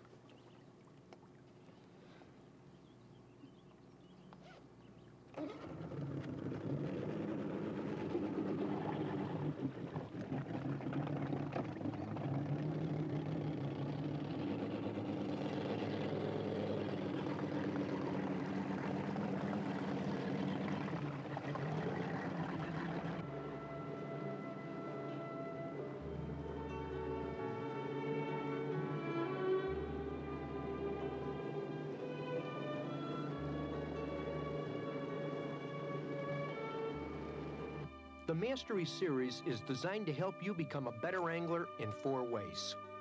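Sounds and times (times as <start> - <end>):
boat motor running: 5.3 - 40.2.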